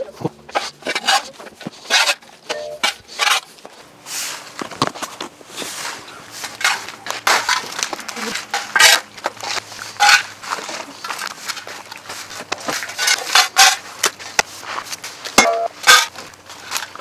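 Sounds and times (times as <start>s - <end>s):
scraping and rustling of sawdust: 0.1s - 17.0s.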